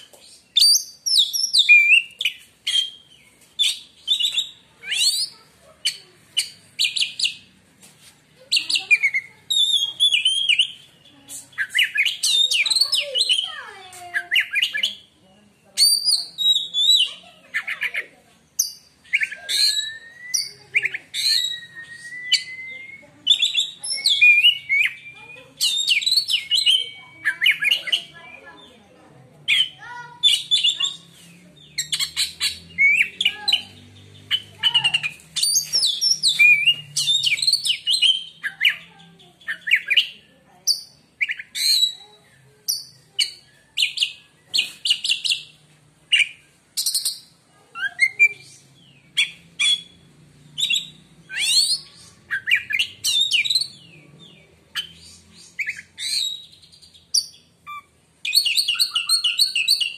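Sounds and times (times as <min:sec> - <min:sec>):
bird singing chirps and trills: 0:00.0 - 0:07.6, 0:08.4 - 0:59.9.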